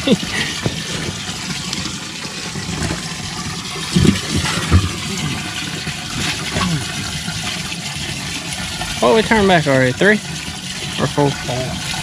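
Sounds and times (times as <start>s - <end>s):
running water gushing: 0.0s - 12.0s
water sloshing and splashing: 0.0s - 12.0s.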